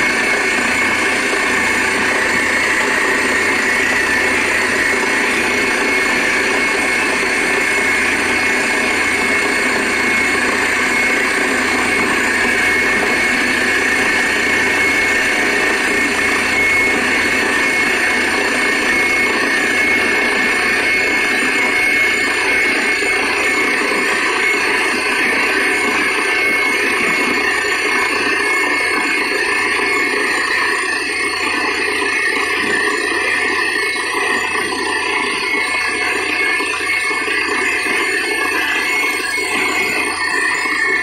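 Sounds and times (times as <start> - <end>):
drilling rig running: 0.0 - 41.0
thin high whine: 0.0 - 41.0.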